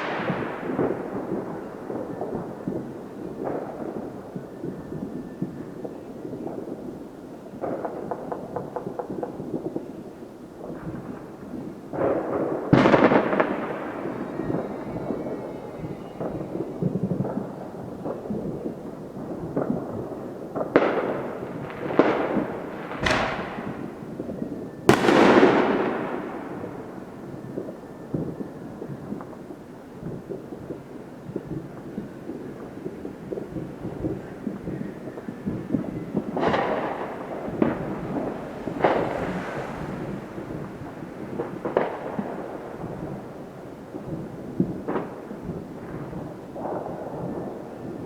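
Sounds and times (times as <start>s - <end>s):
firecracker pops: 0.0s - 6.8s, 7.5s - 48.0s
fireworks bangs echoing: 0.0s - 48.0s.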